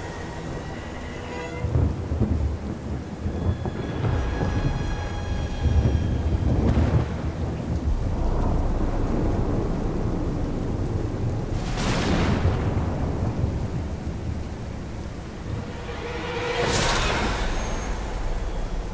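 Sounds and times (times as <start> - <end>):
steady rain: 0.0 - 18.9
thunder rumbling: 0.0 - 18.9.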